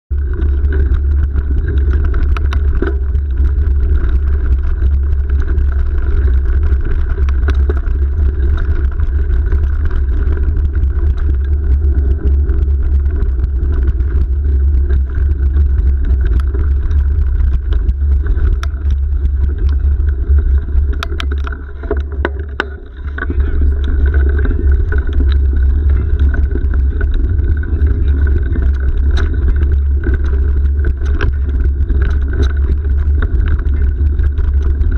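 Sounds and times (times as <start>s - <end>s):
bike tyres rolling on dirt: 0.1s - 34.9s
clicks and knocks from bumps: 0.1s - 34.9s
wind buffeting microphone: 0.1s - 34.9s.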